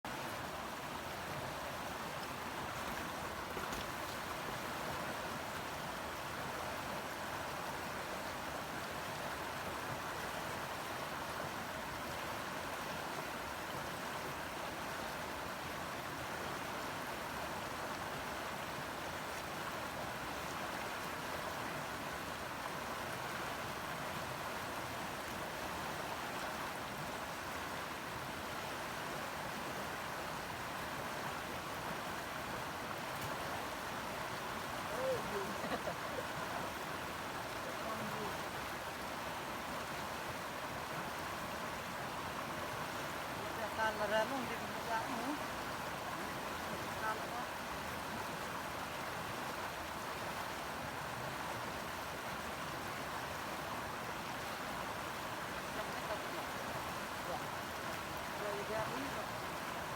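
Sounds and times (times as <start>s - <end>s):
flowing river water rushing: 0.1s - 59.9s.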